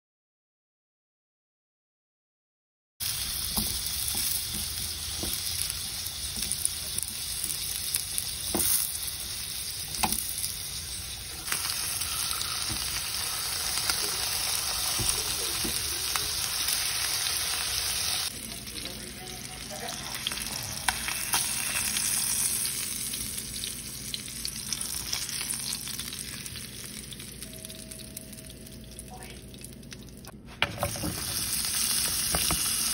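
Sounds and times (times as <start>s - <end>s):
food sizzling in hot oil: 3.0s - 32.9s.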